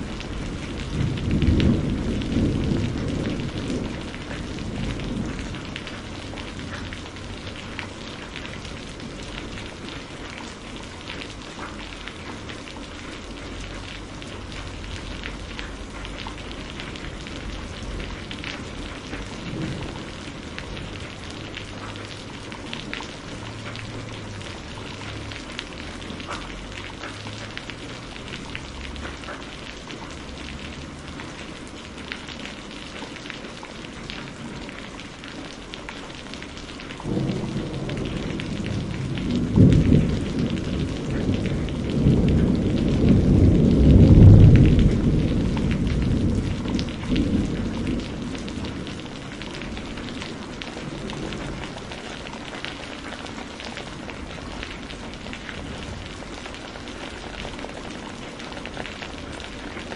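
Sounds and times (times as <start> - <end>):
distant thunder rumbling: 0.0 - 32.0, 36.5 - 59.9
heavy rain pattering: 0.0 - 59.9.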